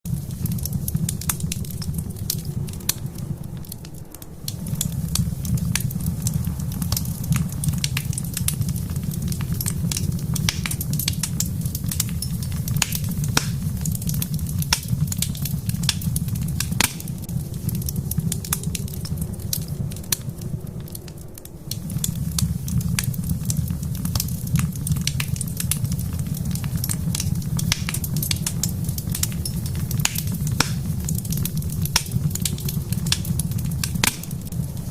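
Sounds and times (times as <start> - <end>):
wood fire crackling and popping: 0.0 - 34.9
low rumble: 0.1 - 34.9.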